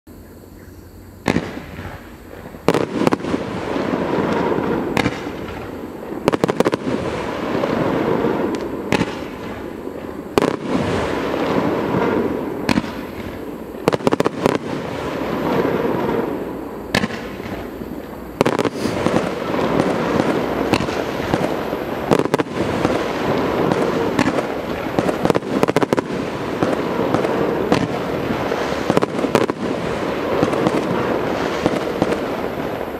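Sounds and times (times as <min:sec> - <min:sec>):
firework bangs: 0:01.2 - 0:32.9.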